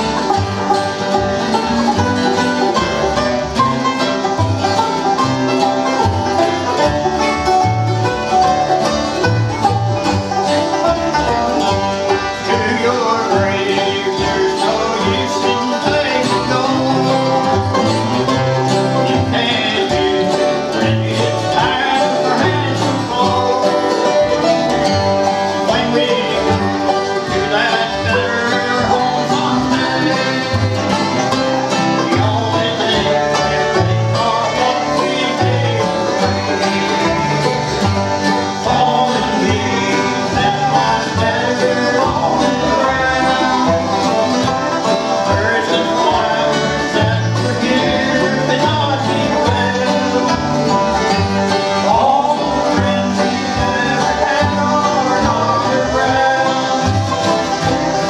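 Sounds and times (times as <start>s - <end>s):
acoustic guitars strumming: 0.0s - 58.0s
banjo picking: 0.0s - 58.0s.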